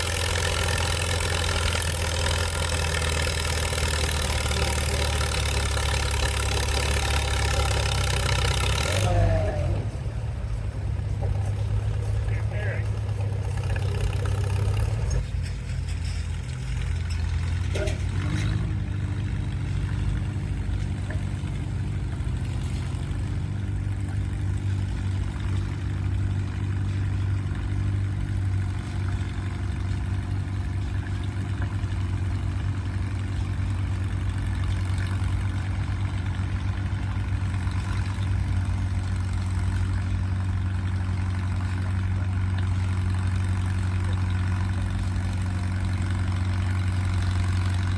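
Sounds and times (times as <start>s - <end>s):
clatter: 0.0s - 47.9s
tractor engine running: 0.0s - 47.9s.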